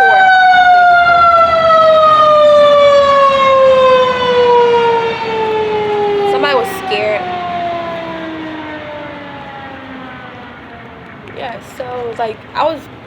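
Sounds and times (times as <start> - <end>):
siren wail falling in pitch: 0.0 - 11.4.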